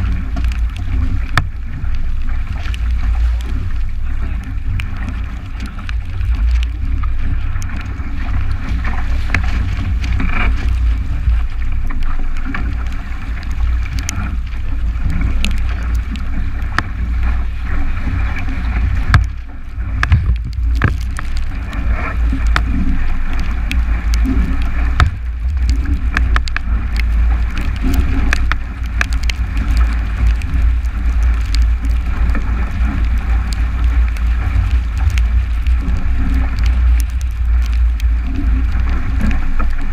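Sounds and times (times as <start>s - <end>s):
water rushing past hull: 0.0s - 39.9s
waves knocking and splashing on boat: 0.0s - 39.9s
wind buffeting microphone: 0.0s - 39.9s.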